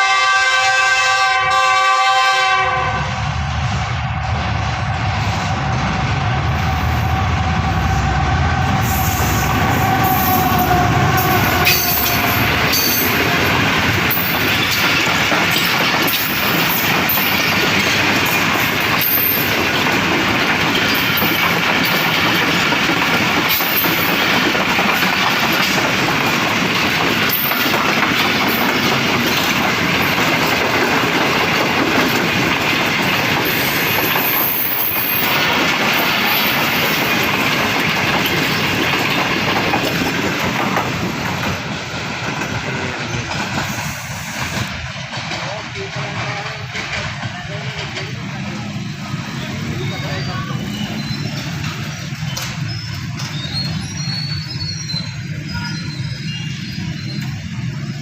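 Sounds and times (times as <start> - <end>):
passenger train rolling past: 0.0 - 58.0.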